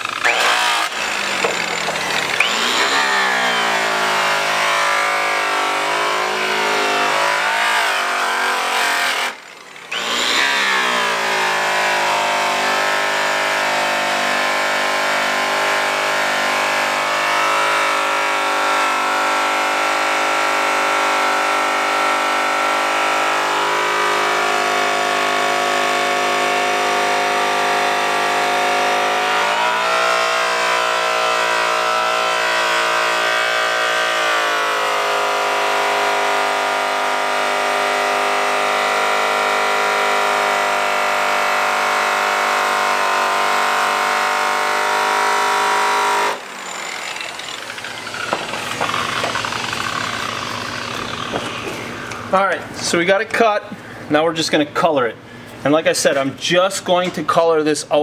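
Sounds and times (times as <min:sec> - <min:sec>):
polisher motor whine: 0:00.0 - 0:52.4.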